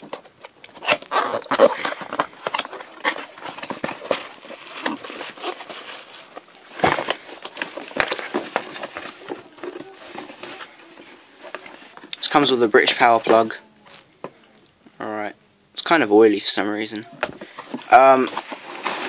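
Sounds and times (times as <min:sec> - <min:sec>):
cardboard packaging rustling: 0:00.0 - 0:14.1, 0:17.0 - 0:19.0.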